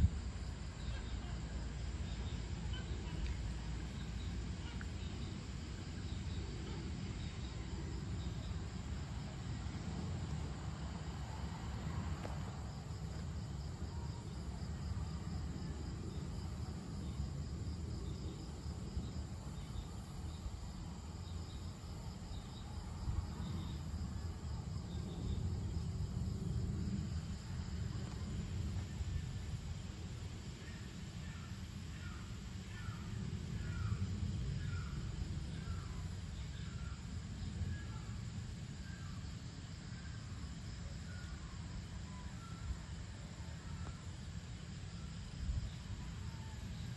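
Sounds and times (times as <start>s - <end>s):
insects chirring: 0.0s - 46.9s.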